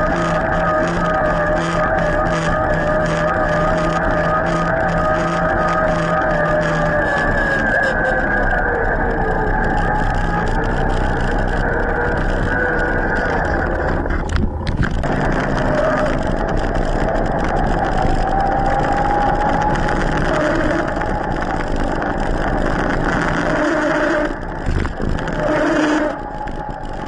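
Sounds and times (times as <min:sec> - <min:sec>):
tyre noise on paved road: 0:00.0 - 0:27.0
wind rushing on microphone: 0:00.0 - 0:27.0.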